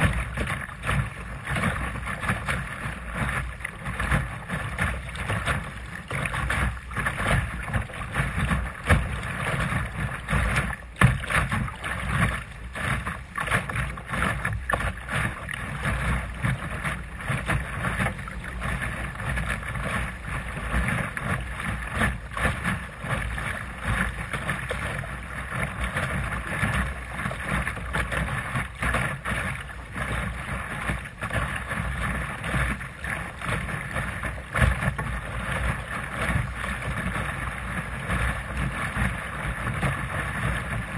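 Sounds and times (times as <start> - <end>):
water slapping against hull: 0.0 - 40.9.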